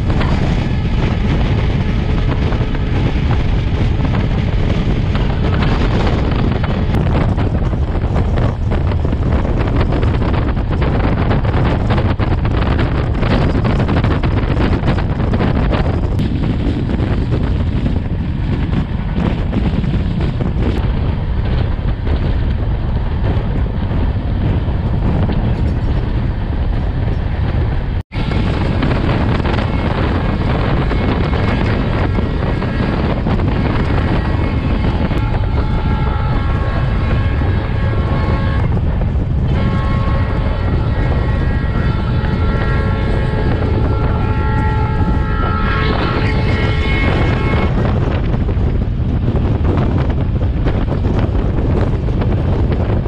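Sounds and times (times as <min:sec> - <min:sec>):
train coaches clattering on rails: 0:00.0 - 0:53.0
wind rushing on microphone: 0:00.0 - 0:53.0.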